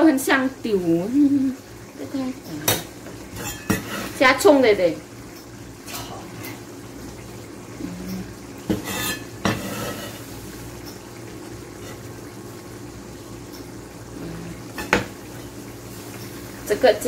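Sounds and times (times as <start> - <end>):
sauce simmering in wok: 0.0 - 17.0.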